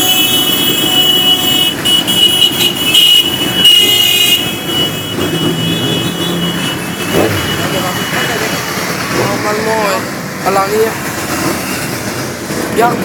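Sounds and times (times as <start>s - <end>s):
group of motorcycles riding past: 0.0s - 13.0s.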